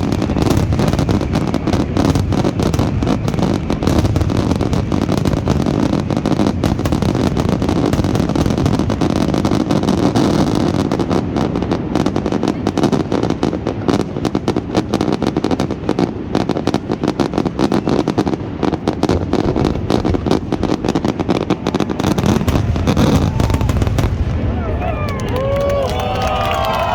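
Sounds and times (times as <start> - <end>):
fireworks bangs and crackles: 0.0 - 26.9.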